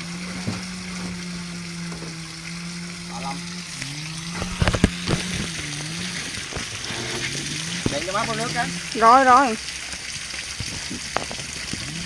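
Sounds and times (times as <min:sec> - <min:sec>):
motor hum: 0:00.0 - 0:12.0
water draining and splashing: 0:00.0 - 0:12.0.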